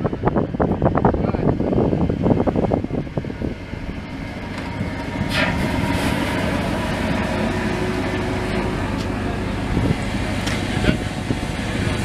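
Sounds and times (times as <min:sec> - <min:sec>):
pumping unit running: 0:00.0 - 0:12.0.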